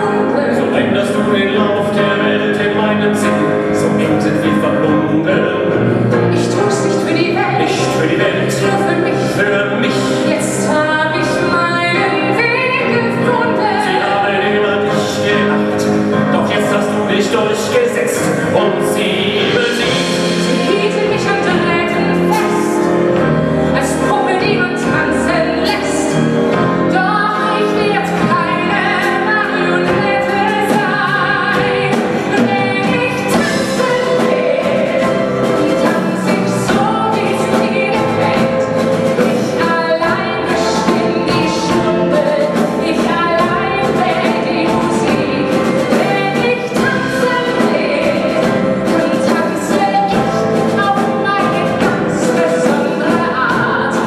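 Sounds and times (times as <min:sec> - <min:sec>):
woman singing into a microphone: 0:00.0 - 0:01.4, 0:06.2 - 0:16.2, 0:19.8 - 0:54.0
drums: 0:00.0 - 0:54.0
piano: 0:00.0 - 0:54.0.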